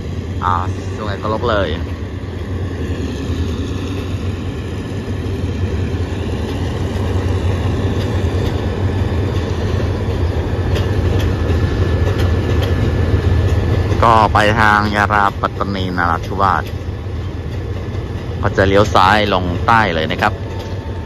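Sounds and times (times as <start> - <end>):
diesel locomotive engine drone: 0.0 - 21.0
rumble of train cars: 0.0 - 21.0.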